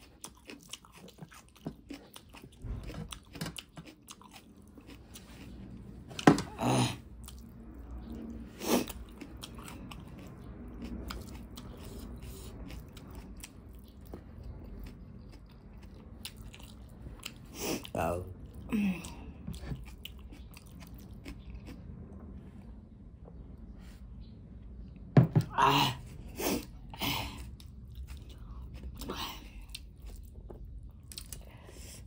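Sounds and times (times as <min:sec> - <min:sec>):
person chewing noodles: 0:00.0 - 0:22.1, 0:26.0 - 0:32.0.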